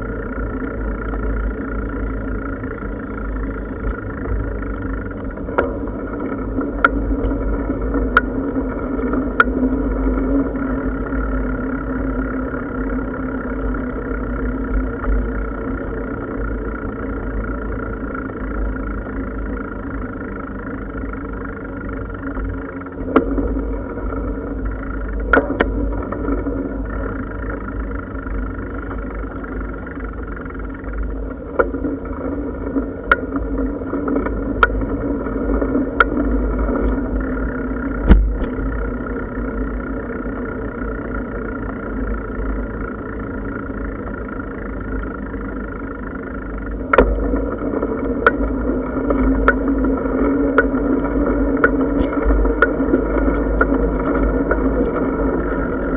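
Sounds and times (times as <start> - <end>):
bicycle tyres rumbling: 0.0 - 55.9
wind: 0.0 - 55.9.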